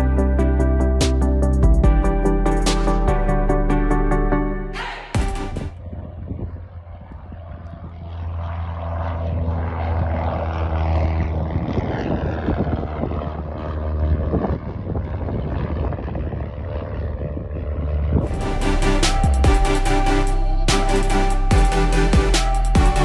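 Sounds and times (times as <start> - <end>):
light aircraft engine running: 0.0 - 23.0.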